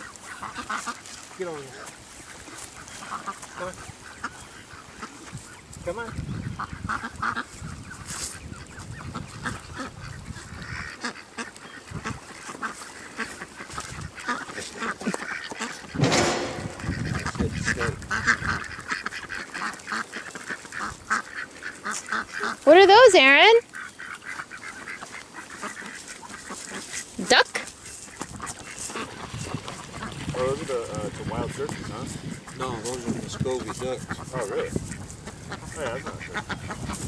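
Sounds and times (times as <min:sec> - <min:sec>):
ducks quacking and honking: 0:00.0 - 0:37.0.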